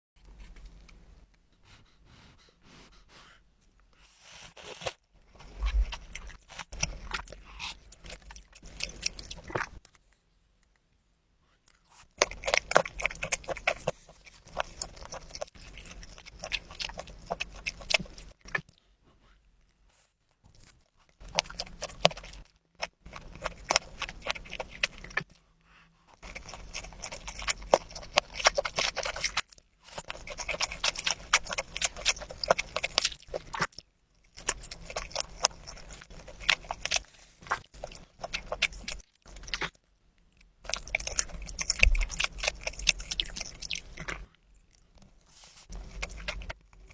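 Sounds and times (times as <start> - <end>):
wet chewing and mouth sounds: 4.0 - 11.0, 11.6 - 46.9.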